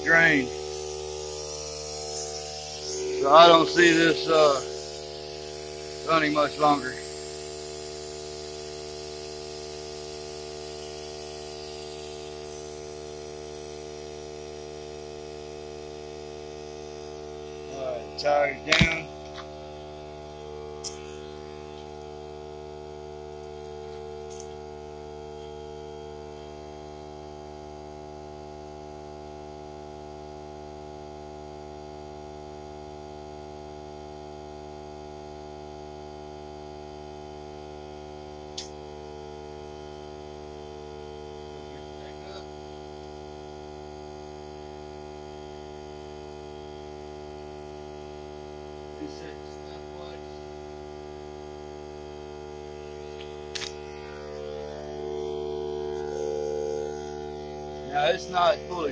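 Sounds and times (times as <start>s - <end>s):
air compressor motor humming: 0.0s - 58.9s.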